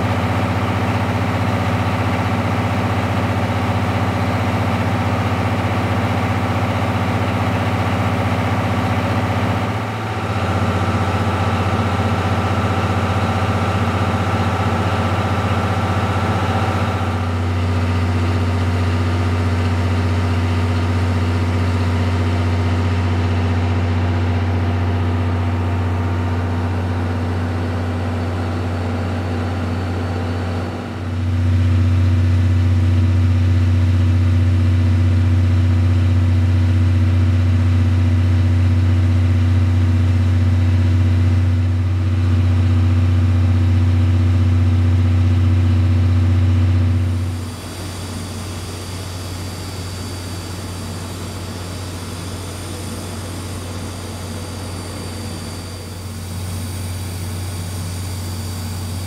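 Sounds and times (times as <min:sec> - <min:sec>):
large diesel engine idling: 0:00.0 - 0:59.0.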